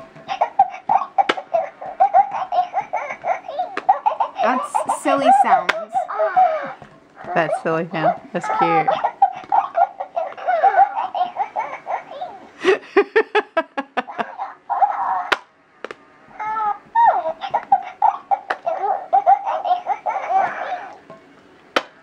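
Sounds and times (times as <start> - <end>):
electronic toy giggling and babbling: 0.0 - 12.8, 13.9 - 15.4, 16.4 - 21.1.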